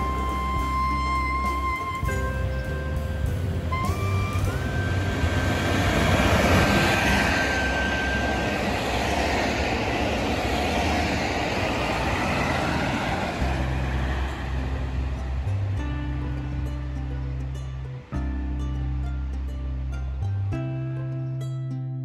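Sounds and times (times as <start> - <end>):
train passing at speed: 0.0 - 17.8
background music: 0.0 - 22.0.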